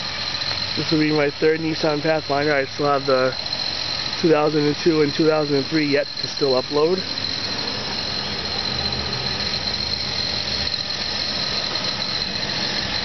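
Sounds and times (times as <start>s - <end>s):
car engine idling: 0.0s - 13.0s
high-pitched whine: 0.0s - 13.0s.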